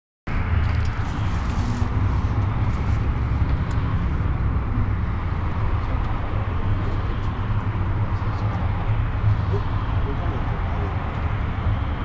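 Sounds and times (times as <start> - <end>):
bus diesel engine running: 0.3 - 12.0
road and wind noise: 0.3 - 12.0.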